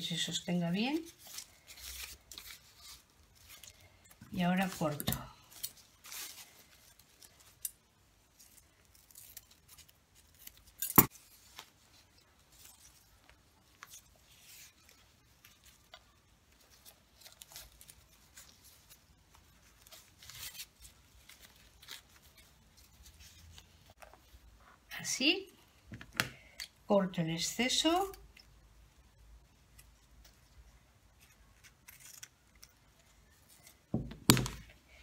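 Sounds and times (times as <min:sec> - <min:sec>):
ribbon and fabric rustling: 0:00.0 - 0:35.0.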